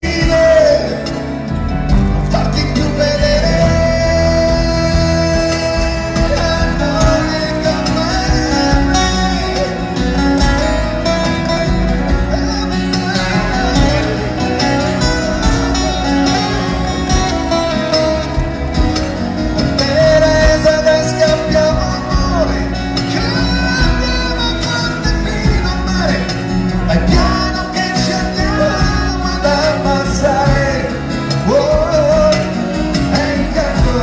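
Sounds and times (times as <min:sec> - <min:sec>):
person singing: 0:00.0 - 0:34.0
pop band playing live: 0:00.0 - 0:34.0.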